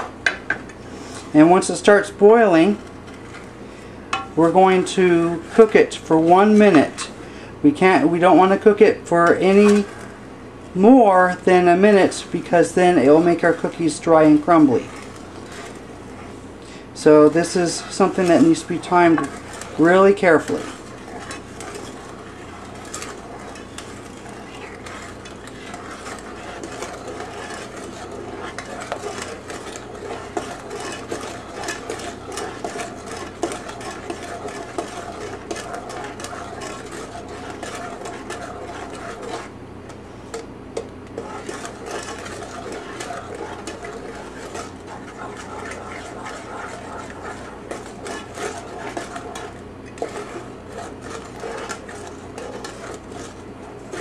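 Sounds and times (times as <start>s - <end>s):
wooden spoon scraping a saucepan: 0.6s - 3.6s, 4.2s - 54.0s.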